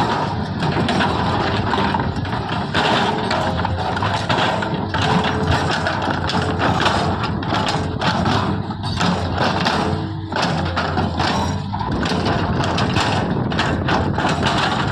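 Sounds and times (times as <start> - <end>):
diesel engine running under load: 0.0 - 14.9
mechanical clatter and knocks: 0.0 - 14.9.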